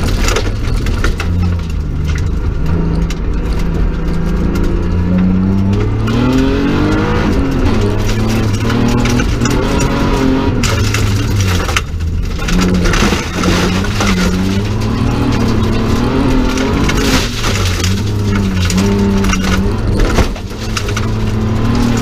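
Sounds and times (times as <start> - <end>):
gravel crunching under car: 0.0 - 22.0
rally car engine revving: 0.0 - 22.0.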